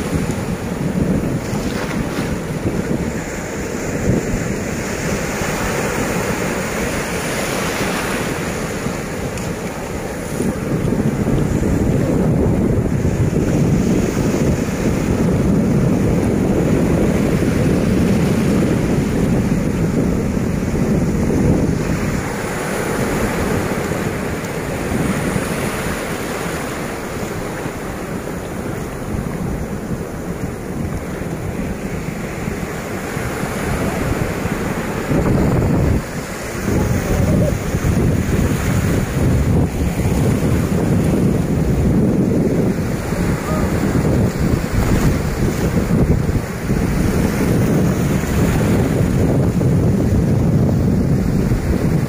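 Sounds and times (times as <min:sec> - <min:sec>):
sea surf breaking on sand: 0:00.0 - 0:52.0
wind buffeting microphone: 0:00.0 - 0:52.0.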